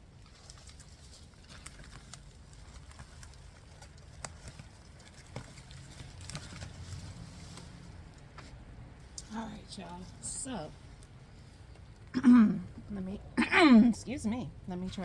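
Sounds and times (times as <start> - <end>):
hands digging through soil: 0.0 - 12.0.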